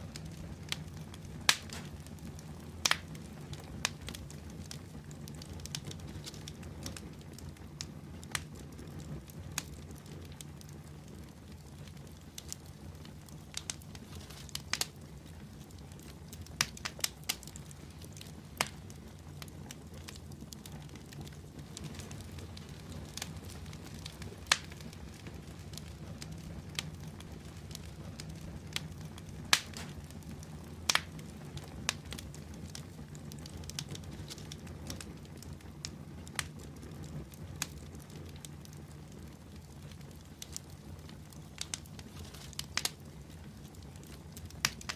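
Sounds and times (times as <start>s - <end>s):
fire crackling and popping: 0.0s - 44.9s
wood fire burning: 0.0s - 44.9s.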